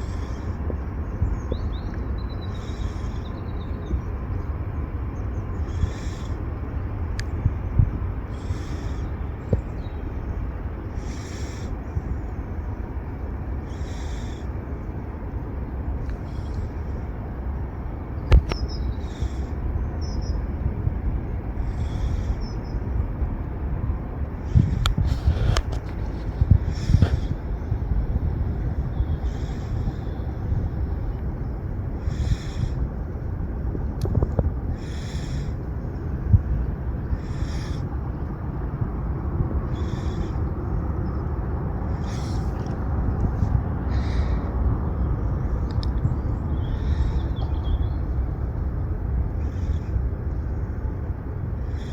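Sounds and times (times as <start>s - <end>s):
jet engines low rumble: 0.0s - 51.9s
wind buffeting microphone: 0.0s - 51.9s.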